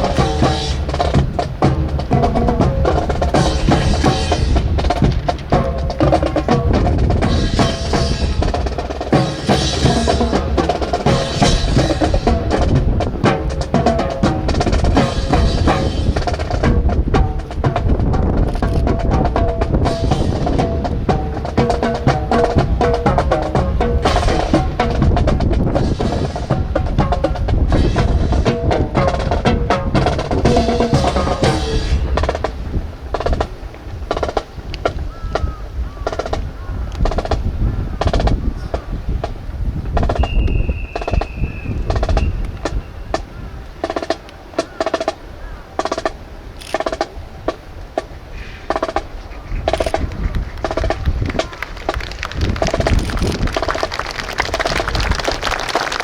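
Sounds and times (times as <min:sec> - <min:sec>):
snare drums playing: 0:00.0 - 0:45.2, 0:45.8 - 0:56.0.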